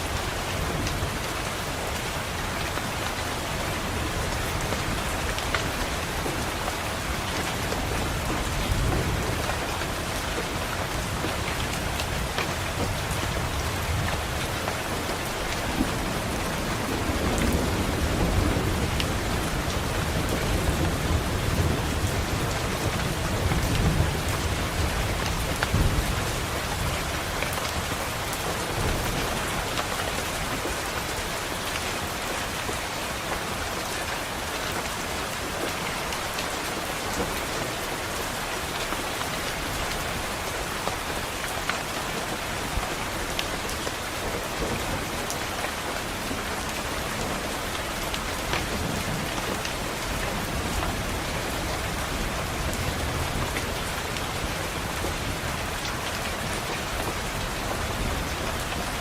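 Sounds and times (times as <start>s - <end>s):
rain on a window pane: 0.0s - 59.0s.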